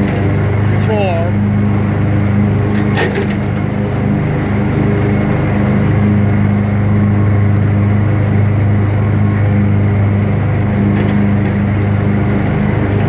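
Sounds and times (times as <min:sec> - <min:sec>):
riding mower engine running: 0:00.0 - 0:13.0.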